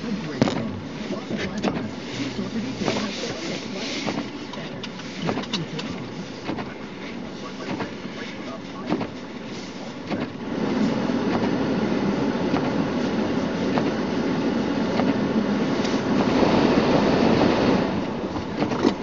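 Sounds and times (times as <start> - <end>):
tyres rumbling on snowy road: 0.0 - 19.0.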